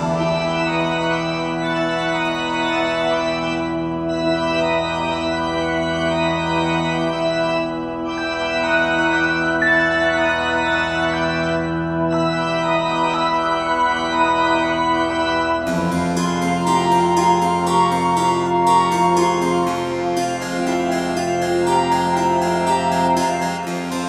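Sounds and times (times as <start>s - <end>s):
slow held organ-like chords: 0.0s - 24.0s.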